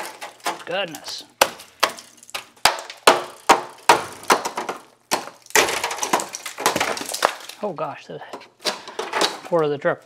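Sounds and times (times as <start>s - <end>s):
rusted sheet metal cracking: 0.0s - 7.8s, 8.6s - 9.9s.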